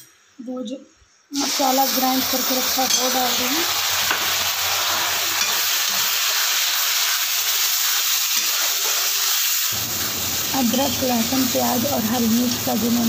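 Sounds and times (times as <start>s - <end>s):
paste sizzling in hot oil: 1.4s - 13.0s.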